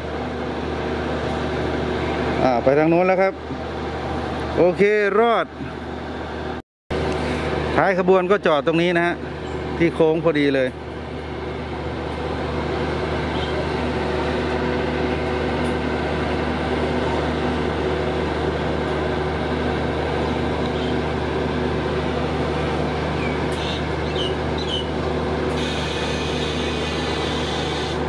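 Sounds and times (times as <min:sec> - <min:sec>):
diesel train idling: 0:00.0 - 0:28.0.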